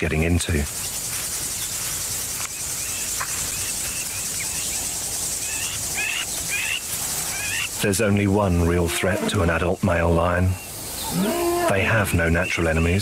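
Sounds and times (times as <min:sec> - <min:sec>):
high-pitched insect chorus: 0:00.0 - 0:13.0
short insect chirps: 0:00.2 - 0:12.9.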